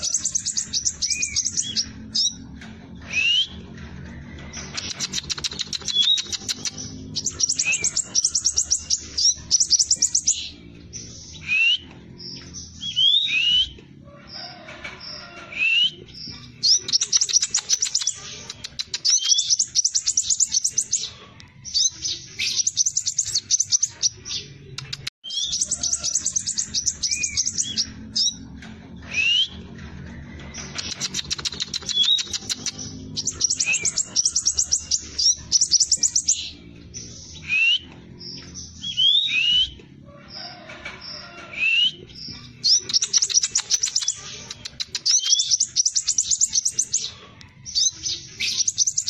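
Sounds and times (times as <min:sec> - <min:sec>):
bird singing rapid chips: 0:00.0 - 0:13.8, 0:15.0 - 0:39.8, 0:40.5 - 0:49.0.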